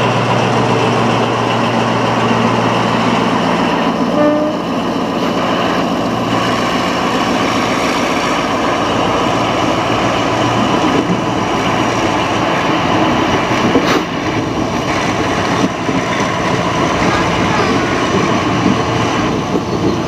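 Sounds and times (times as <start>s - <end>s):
locomotive engine drone: 0.0s - 20.0s
wheels rumbling and clattering on rails: 0.0s - 20.0s.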